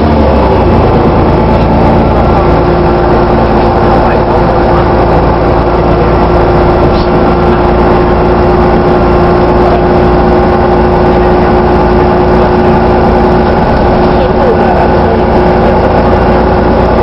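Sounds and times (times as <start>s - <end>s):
bus engine drone with whine: 0.0s - 17.0s.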